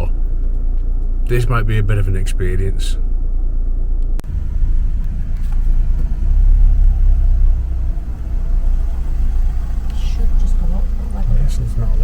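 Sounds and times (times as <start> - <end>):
van engine rumble from cabin: 0.0 - 12.0.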